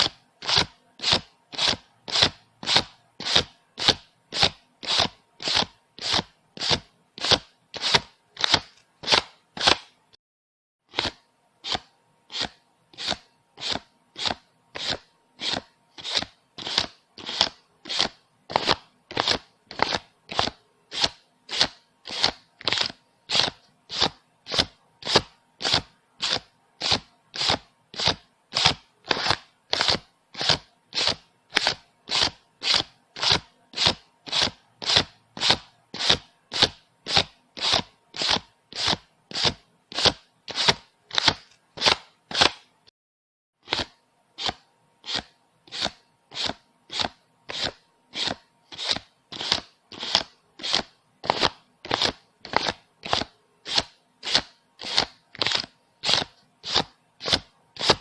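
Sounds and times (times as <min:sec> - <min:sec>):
banknotes flicked crisply: 0:00.0 - 0:10.0, 0:10.9 - 0:42.8, 0:43.6 - 0:58.0.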